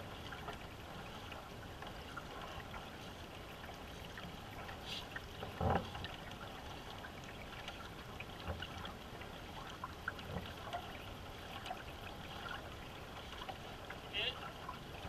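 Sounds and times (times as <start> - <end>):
water trickling along canoe hull: 0.0 - 15.0.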